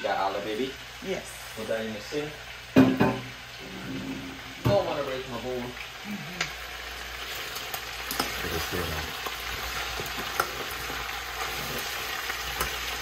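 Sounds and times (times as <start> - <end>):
meat and vegetables sizzling: 0.0 - 13.0.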